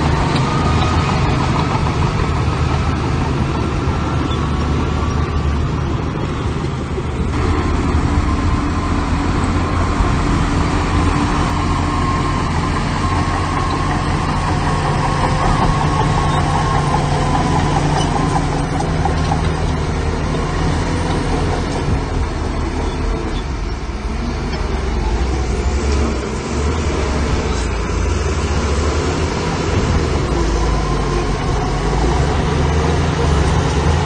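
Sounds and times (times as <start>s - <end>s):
heavy diesel engines running: 0.0s - 34.0s.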